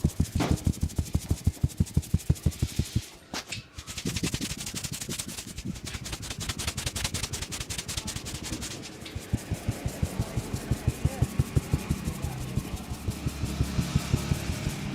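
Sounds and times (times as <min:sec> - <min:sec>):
hands slapping and rubbing head: 0:00.0 - 0:14.9.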